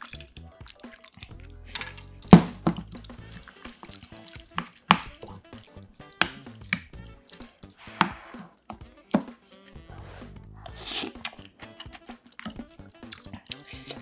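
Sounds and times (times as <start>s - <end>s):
wet stew sounds: 0.0s - 14.0s.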